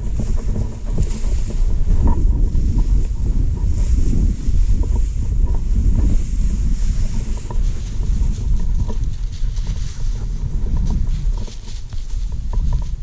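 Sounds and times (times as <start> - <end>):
footsteps through dry grass: 0.0 - 13.0
wind buffeting microphone: 0.0 - 13.0.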